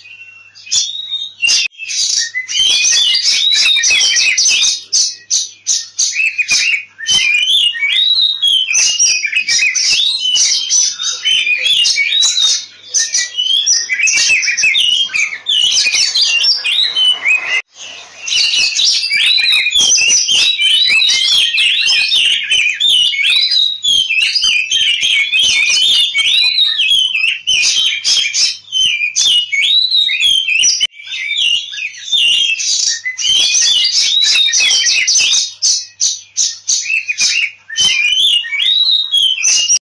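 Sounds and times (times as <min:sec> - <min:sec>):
bird singing rapid chirps and whistles: 0:00.0 - 0:39.8.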